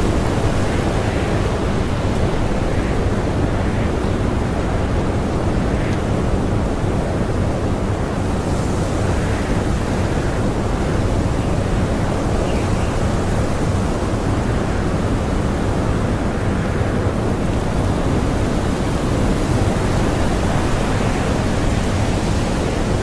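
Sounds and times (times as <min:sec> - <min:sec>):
blizzard wind blowing: 0:00.0 - 0:23.0.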